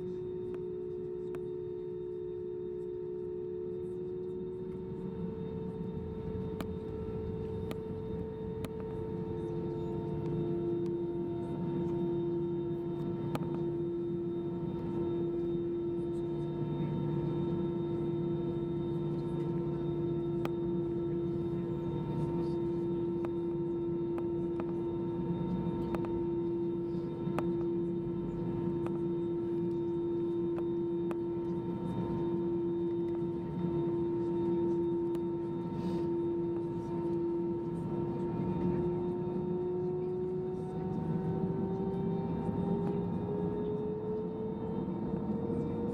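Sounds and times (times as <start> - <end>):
jet engines idling whine: 0.0 - 45.9.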